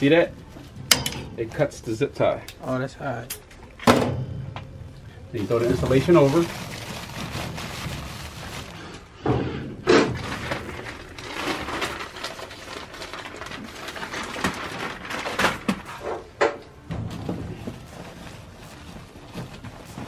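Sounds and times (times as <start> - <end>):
plastic rustling and crinkling: 0.0 - 20.0.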